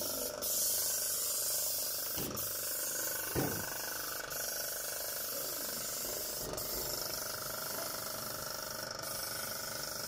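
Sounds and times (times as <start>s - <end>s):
paint sprayer pump whirring: 0.0s - 10.0s.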